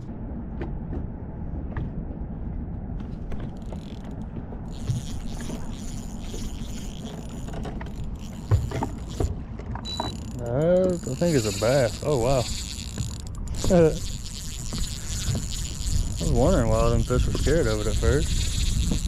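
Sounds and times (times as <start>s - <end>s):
wind rumble on microphone: 0.0s - 19.0s
fishing reel whirring and ratcheting: 3.6s - 19.0s.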